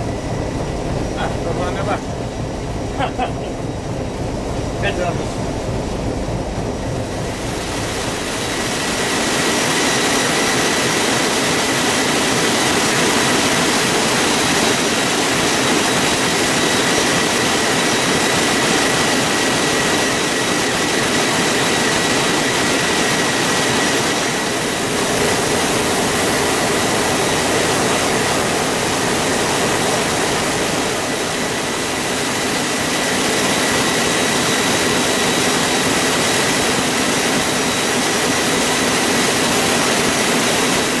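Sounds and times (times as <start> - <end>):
engine room machinery: 0.0 - 41.0
high machine whine: 0.0 - 41.0.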